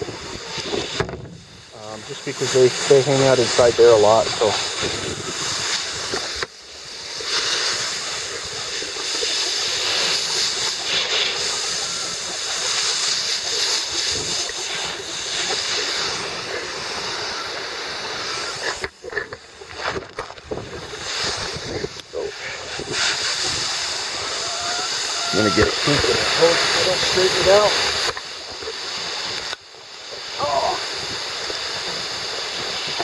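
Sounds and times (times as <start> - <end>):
garden hose spraying water: 0.0 - 33.0.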